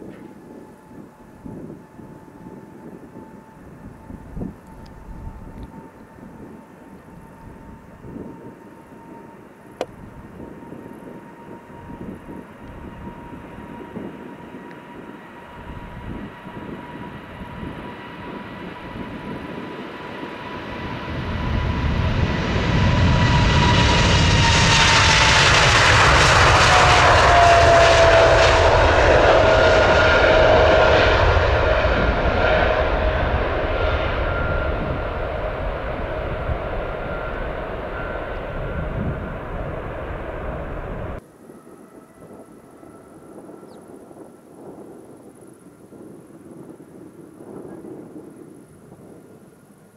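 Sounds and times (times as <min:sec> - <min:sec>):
jet whine dropping in pitch: 0:00.0 - 0:49.3
jet engines at takeoff: 0:00.0 - 0:49.9.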